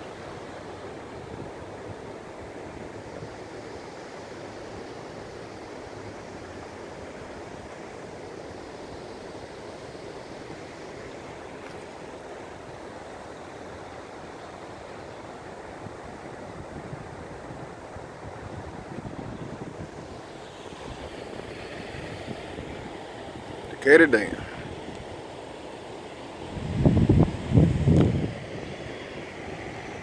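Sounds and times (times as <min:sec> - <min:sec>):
water rushing at a dam: 0:00.0 - 0:30.0.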